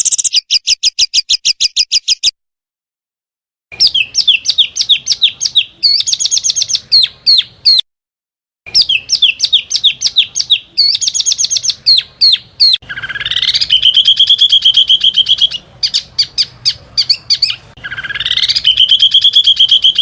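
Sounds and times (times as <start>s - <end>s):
songbird song with fast trill: 0.0s - 2.4s, 3.7s - 7.8s, 8.7s - 20.0s.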